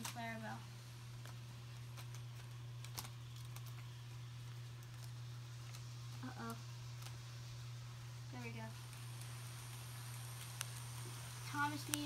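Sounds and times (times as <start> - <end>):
model train cars clicking: 0.0 - 12.0
steady low hum: 0.0 - 12.0.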